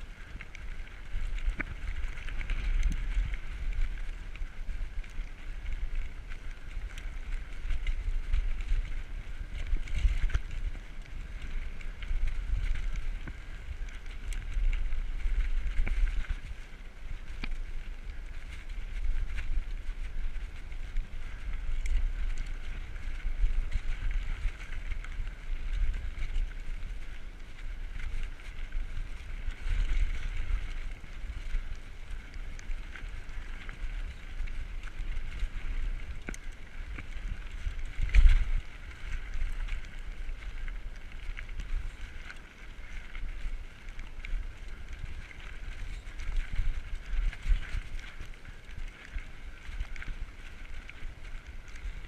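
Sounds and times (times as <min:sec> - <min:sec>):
bike rattles and clicks: 0:00.0 - 0:52.0
bike tyres rumbling over dirt: 0:00.0 - 0:52.0
wind buffeting microphone: 0:00.0 - 0:52.0.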